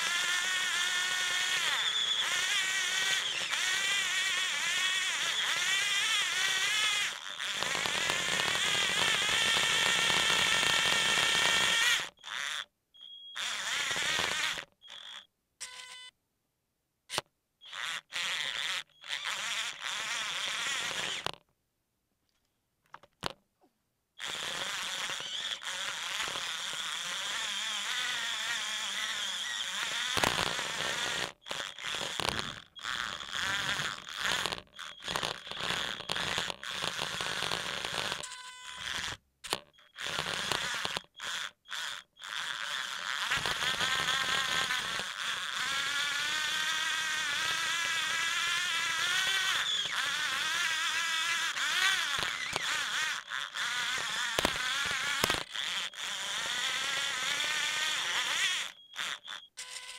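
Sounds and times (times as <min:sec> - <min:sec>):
small electric motors whining: 0:00.0 - 0:16.1, 0:17.1 - 0:21.4, 0:24.2 - 0:59.9.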